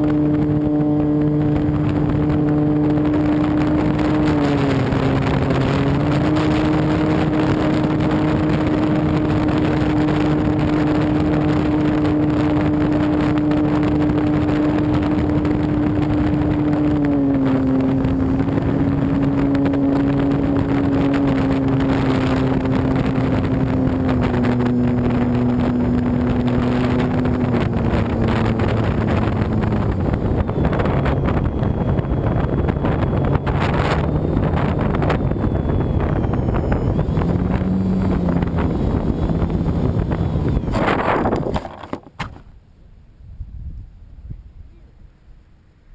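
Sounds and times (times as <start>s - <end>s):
electric motor whine: 0.0s - 42.0s
wind rush over microphone: 0.0s - 45.5s.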